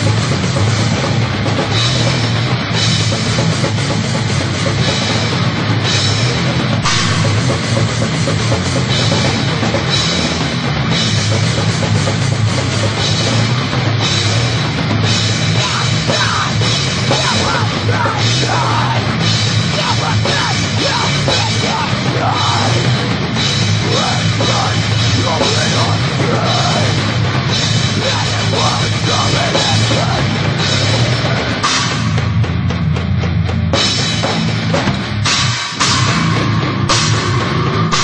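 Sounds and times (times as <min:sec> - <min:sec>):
drum kit and cymbals: 0:00.0 - 0:38.0
heavy metal band playing: 0:00.0 - 0:38.0.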